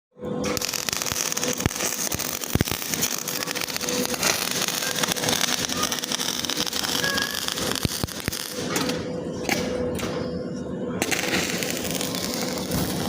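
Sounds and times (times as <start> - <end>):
arc welding crackling: 0.3 - 10.1, 11.0 - 13.0.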